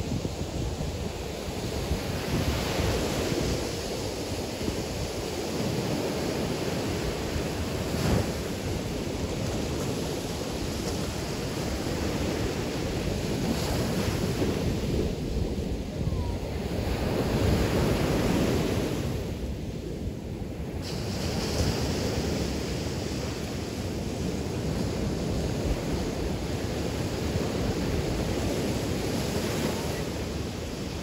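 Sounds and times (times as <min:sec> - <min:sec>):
waves washing onto sand: 0:00.0 - 0:31.0
wind rumbling on microphone: 0:00.0 - 0:31.0.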